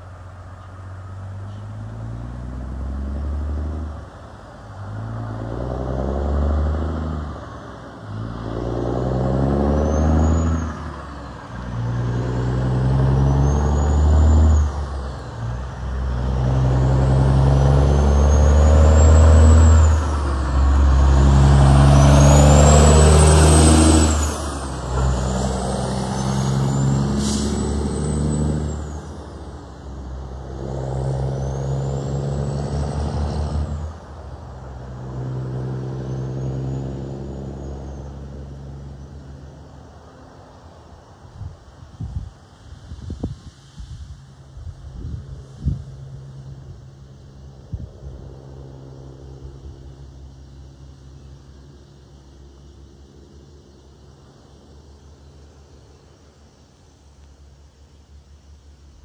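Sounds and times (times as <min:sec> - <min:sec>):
diesel truck accelerating through gears: 0:00.0 - 0:59.0.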